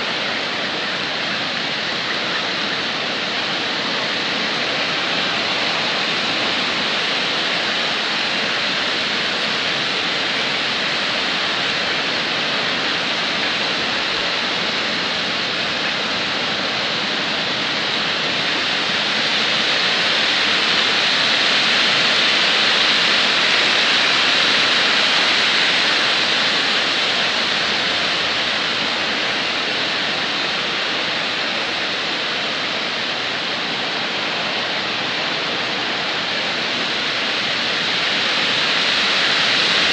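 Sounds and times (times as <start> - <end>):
water rushing through spillway: 0.0 - 39.9.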